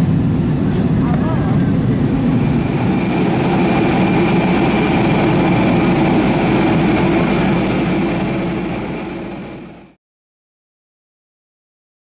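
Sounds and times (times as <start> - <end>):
turbine whine over rumble: 0.0 - 10.0.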